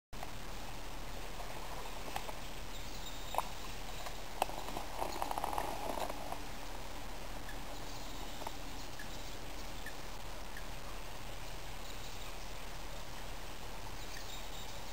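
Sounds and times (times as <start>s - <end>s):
steady hiss: 0.2s - 14.9s.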